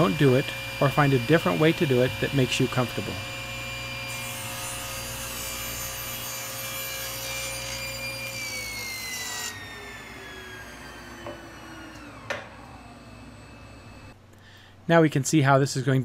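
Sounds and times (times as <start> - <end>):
table saw cutting wood: 0.0 - 14.1
saw motor whine: 0.0 - 14.2.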